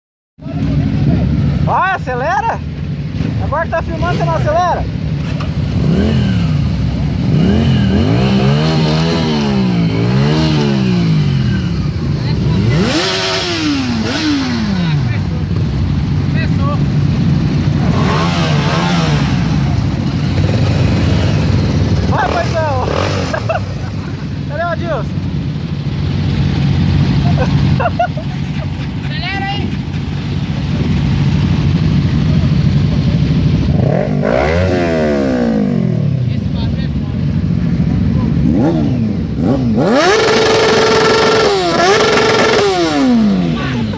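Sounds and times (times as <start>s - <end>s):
vehicle engine revving: 3.1s - 43.9s.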